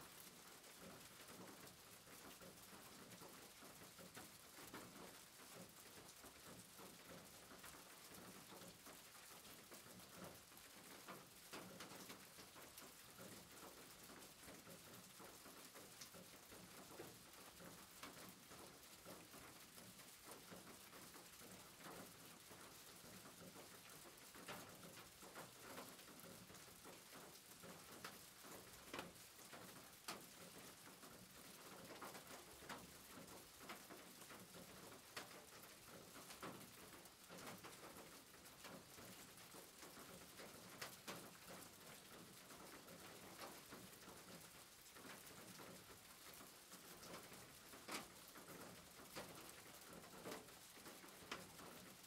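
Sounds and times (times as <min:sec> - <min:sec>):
rain hissing on roof: 0:00.0 - 0:52.0
raindrops ticking: 0:00.1 - 0:52.0.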